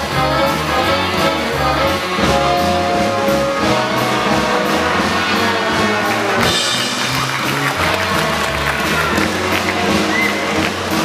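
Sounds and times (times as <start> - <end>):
circus band playing: 0.0 - 11.0.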